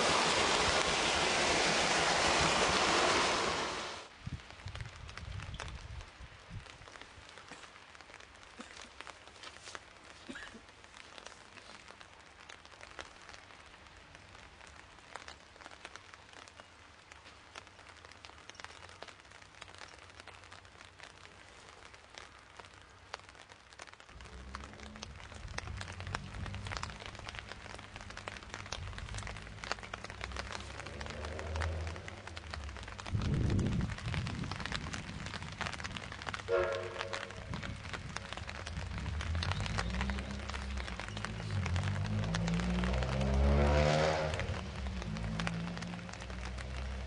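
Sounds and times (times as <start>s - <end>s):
steady rain falling: 0.0s - 47.0s
close raindrop ticks: 4.1s - 47.0s.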